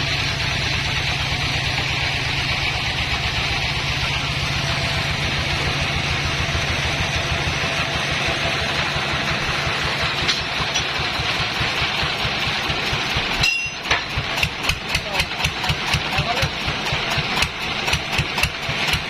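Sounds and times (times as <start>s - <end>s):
engine idling with thumping beat: 0.0s - 19.0s
engine running: 0.0s - 19.0s.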